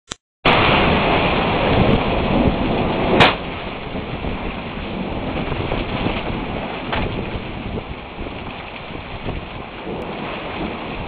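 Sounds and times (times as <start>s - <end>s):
low thunder rumble: 0.5s - 11.0s.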